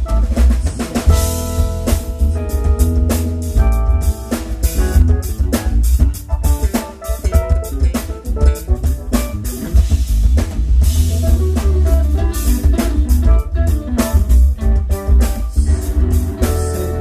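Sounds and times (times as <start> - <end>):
drum kit hitting hard: 0.0 - 17.0
heavy bass: 0.0 - 17.0
pitched instruments playing notes: 0.0 - 17.0.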